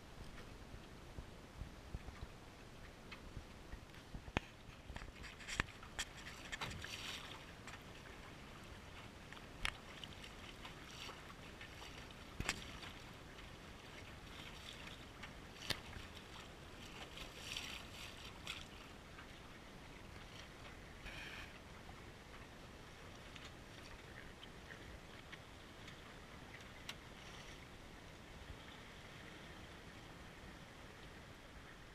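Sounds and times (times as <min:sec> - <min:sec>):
water lapping against a hull: 0:00.0 - 0:31.9.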